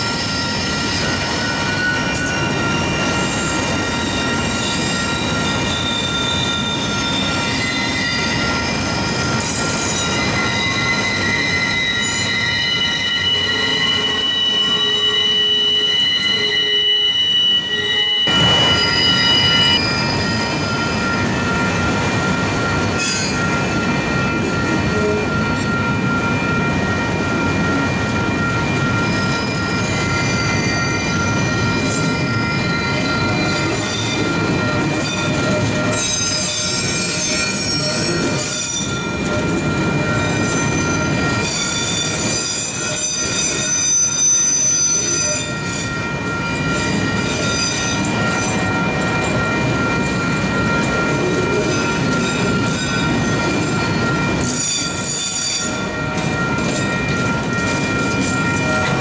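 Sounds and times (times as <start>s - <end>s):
train wheels squealing: 0.0s - 59.0s.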